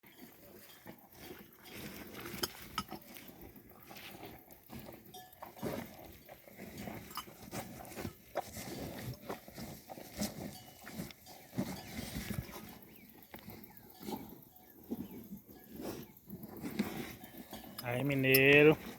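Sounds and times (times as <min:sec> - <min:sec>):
animal crunching while eating: 0:00.0 - 0:18.9.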